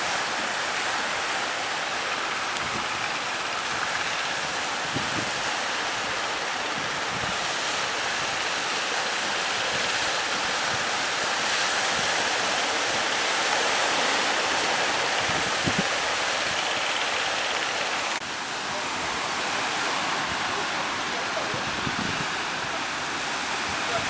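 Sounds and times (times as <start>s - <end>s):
sea waves breaking: 0.0s - 24.0s.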